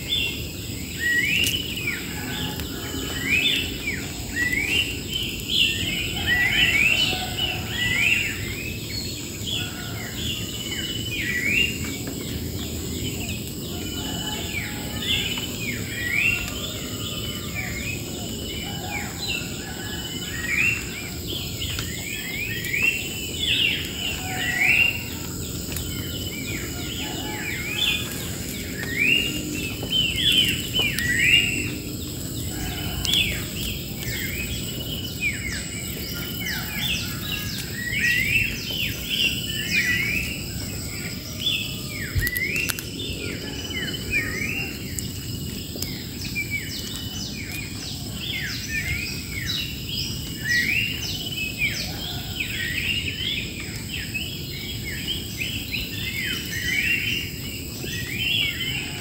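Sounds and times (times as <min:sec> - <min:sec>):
birds chirping: 0:00.0 - 0:59.0
high insect drone: 0:00.0 - 0:59.0.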